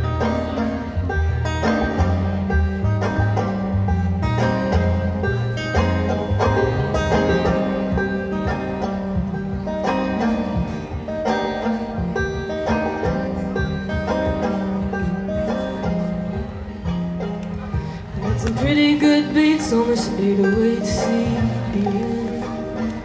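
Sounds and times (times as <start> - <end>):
banjo picking: 0.0 - 23.0
upright bass line: 0.0 - 23.0.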